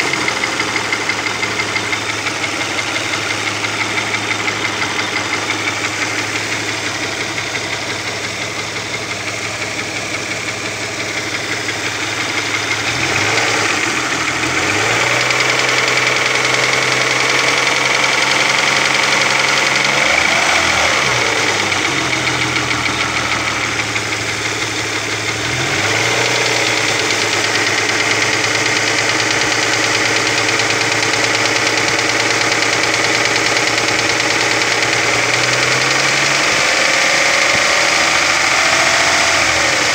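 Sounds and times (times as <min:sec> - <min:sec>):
car engine running with knock: 0:00.0 - 0:39.9.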